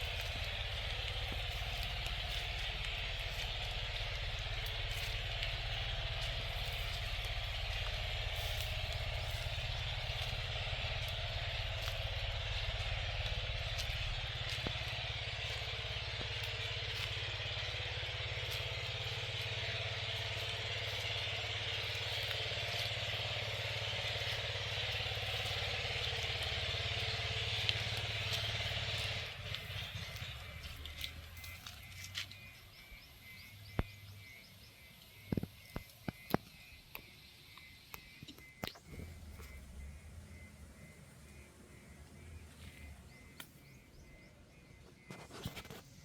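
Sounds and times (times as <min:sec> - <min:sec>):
motor humming: 0:00.0 - 0:33.9, 0:38.7 - 0:45.7.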